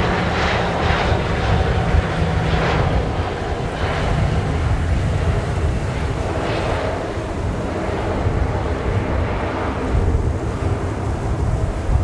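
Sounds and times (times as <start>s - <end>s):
distant jet engines whining: 0.0s - 12.0s
wind buffeting microphone: 0.0s - 12.0s.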